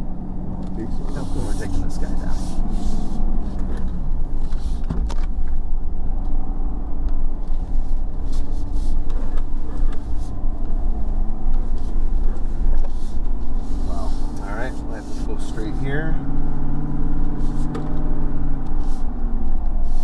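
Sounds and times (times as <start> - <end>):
pickup truck engine rumble: 0.0 - 20.0.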